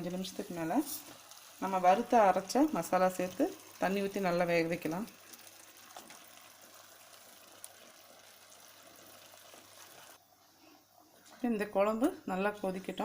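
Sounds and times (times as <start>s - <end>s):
watery hiss from cooking pan: 0.0s - 11.2s.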